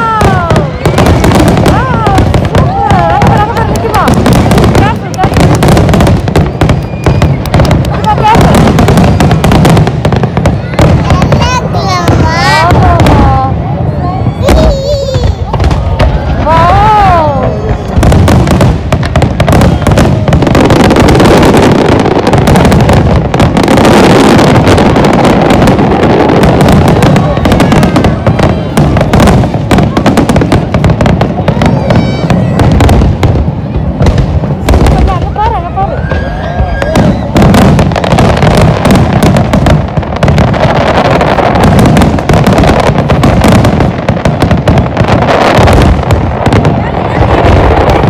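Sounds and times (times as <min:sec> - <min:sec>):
fireworks bursts and crackles: 0:00.0 - 0:48.0.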